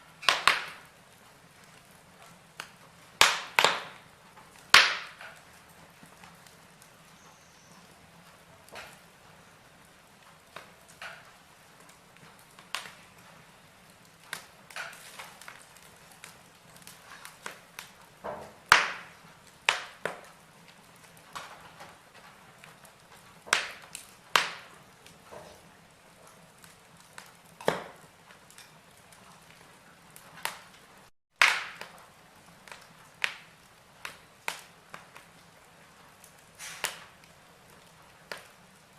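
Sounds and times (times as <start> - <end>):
faint steady hiss: 0.0 - 38.9
wood fire crackling and popping: 0.0 - 38.9.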